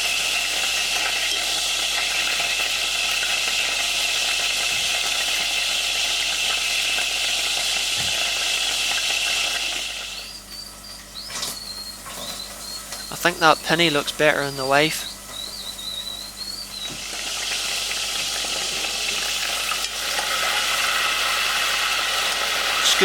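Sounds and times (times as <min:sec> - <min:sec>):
meat sizzling in a pan: 0:00.0 - 0:23.0.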